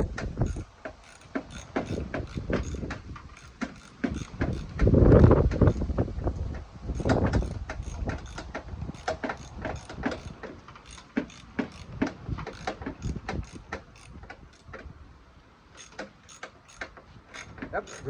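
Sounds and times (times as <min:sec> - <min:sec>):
ratchet wrench clicking: 0:00.3 - 0:04.8, 0:06.9 - 0:14.7, 0:15.8 - 0:18.0.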